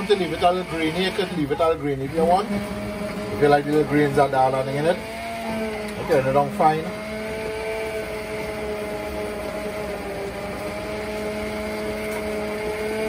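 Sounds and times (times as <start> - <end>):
hand blender motor hum: 0.0 - 13.0.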